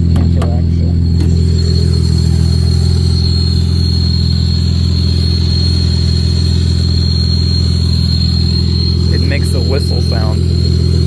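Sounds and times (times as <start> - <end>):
car engine idling: 0.0 - 11.0
high-pitched whistle: 0.4 - 11.0.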